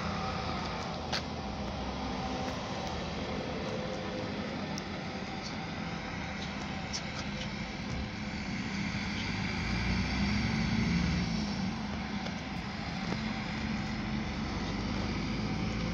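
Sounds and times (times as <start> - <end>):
bus engine rumble: 0.0 - 15.9.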